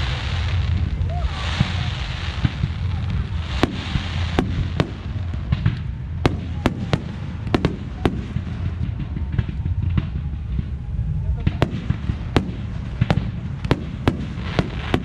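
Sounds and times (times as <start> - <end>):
firework bangs: 0.0 - 15.0
low rumble: 0.0 - 15.0.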